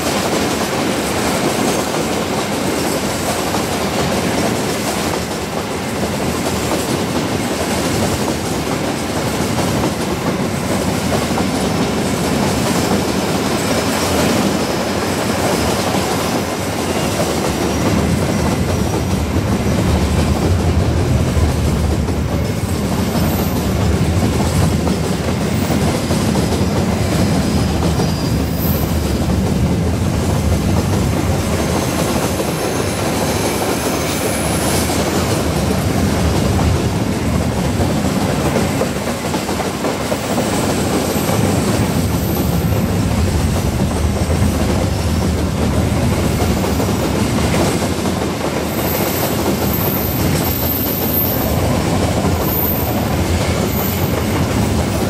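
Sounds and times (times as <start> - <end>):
steel wheels rolling on rails: 0.0 - 55.0.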